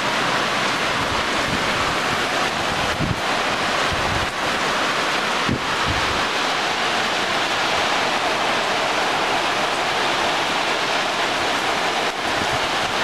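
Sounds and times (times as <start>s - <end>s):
rain pouring: 0.0s - 13.0s.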